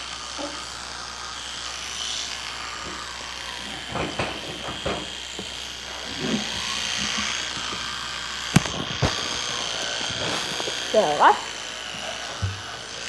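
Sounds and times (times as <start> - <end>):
electric toothbrush buzzing: 0.0 - 13.0.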